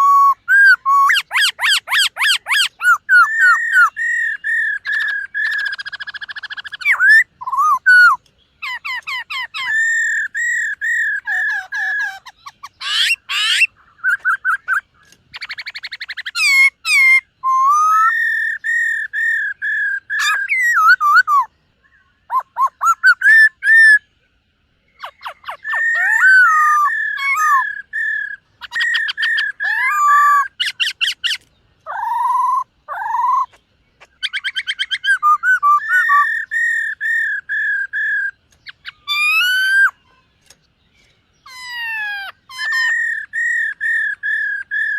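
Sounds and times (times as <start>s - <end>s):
bird whistled song: 0.0s - 44.9s.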